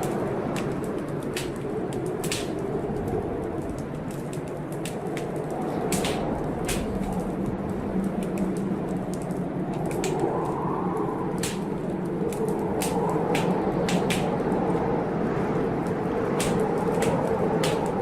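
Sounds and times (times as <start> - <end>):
blizzard wind rushing: 0.0 - 18.0
wood fire crackling and popping: 0.0 - 18.0.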